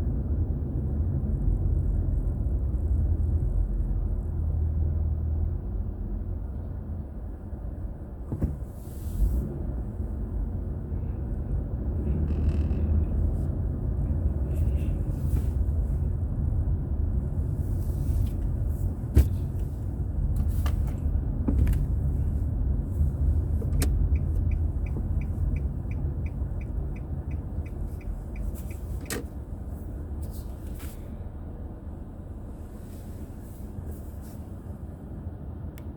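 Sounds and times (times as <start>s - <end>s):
road and engine rumble: 0.0s - 35.9s.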